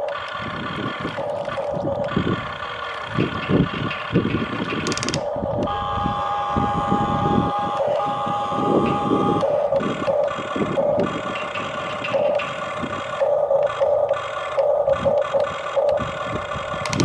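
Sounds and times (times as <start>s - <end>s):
toy electric motors whining: 0.0s - 17.0s.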